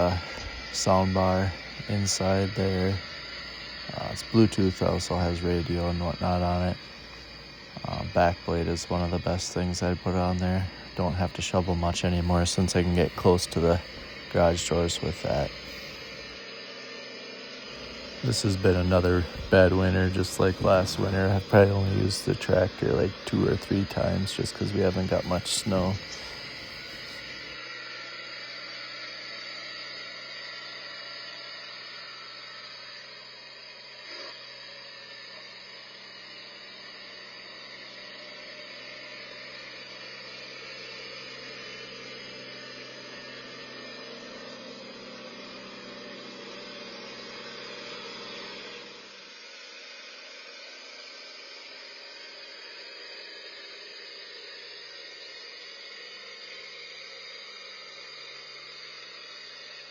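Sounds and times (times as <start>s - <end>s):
constant hiss: 0.0s - 59.9s.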